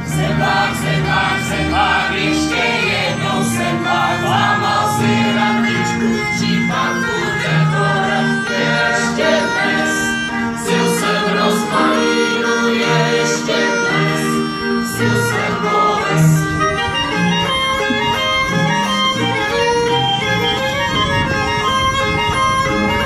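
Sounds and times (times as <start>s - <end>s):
group of voices singing: 0.0s - 19.4s
fiddles and double bass dance tune: 0.0s - 23.0s.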